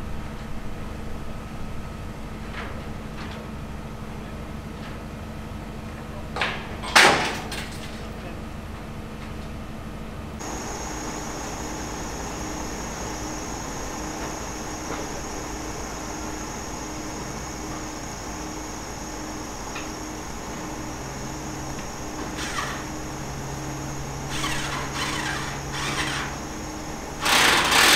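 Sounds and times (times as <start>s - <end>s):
machine hum with high whine: 0.0s - 27.9s
machinery hum: 0.0s - 27.9s.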